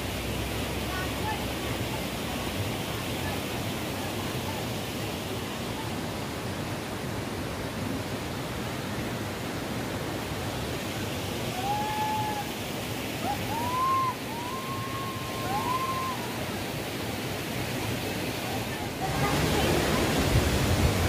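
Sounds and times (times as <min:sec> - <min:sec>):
stream and small waterfall rushing: 0:00.0 - 0:21.0.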